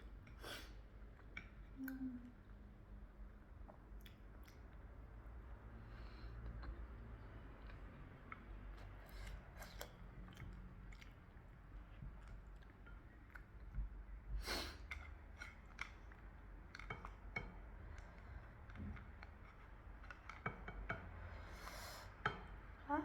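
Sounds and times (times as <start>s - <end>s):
soft chewing: 0.0s - 22.7s.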